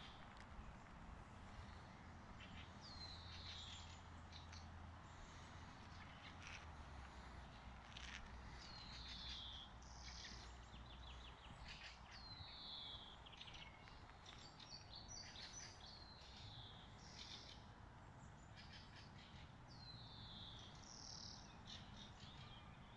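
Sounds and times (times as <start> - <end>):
songbirds singing: 0.0 - 22.9.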